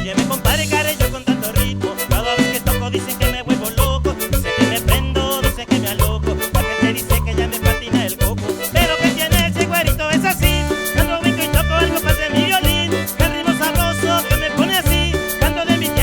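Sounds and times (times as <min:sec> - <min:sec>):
cumbia band playing: 0:00.0 - 0:16.0.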